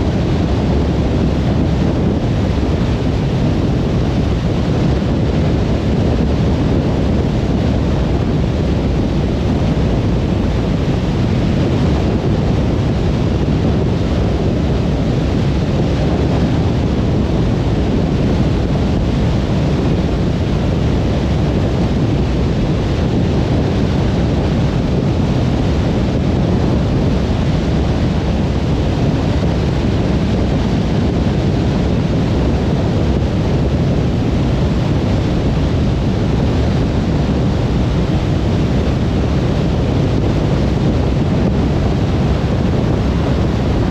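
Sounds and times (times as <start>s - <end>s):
car road and tyre noise: 0.0s - 43.9s.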